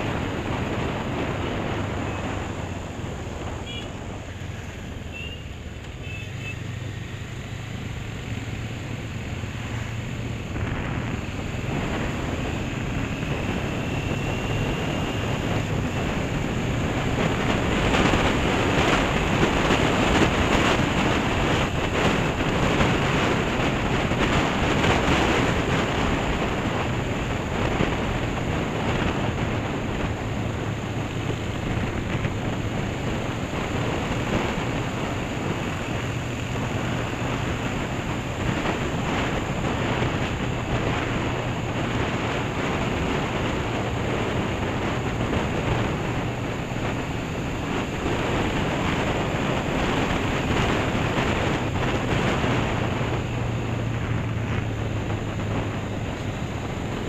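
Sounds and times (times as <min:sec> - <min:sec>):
wind rushing over microphone: 0:00.0 - 0:05.9, 0:06.5 - 0:57.0
motorcycle engine running: 0:00.0 - 0:57.0.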